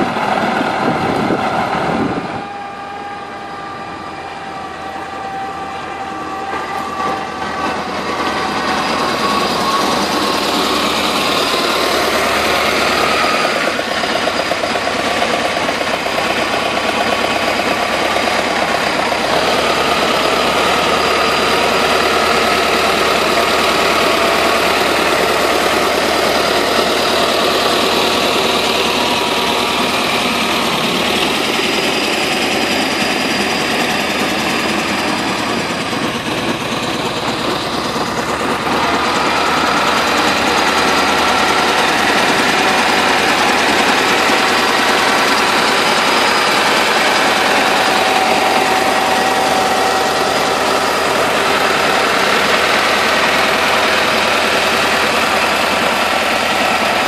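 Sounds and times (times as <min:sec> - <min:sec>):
tractor diesel engine running: 0:00.0 - 0:57.0
rotary tiller churning soil: 0:06.5 - 0:57.0.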